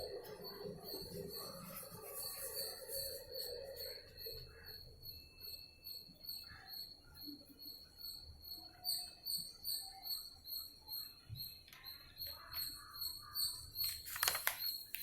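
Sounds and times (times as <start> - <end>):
high-pitched insect chirp: 0.0 - 15.0.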